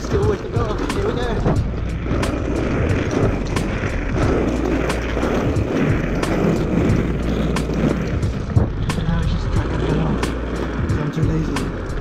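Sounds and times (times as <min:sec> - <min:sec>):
skate wheels rolling on paving: 0:00.0 - 0:12.0.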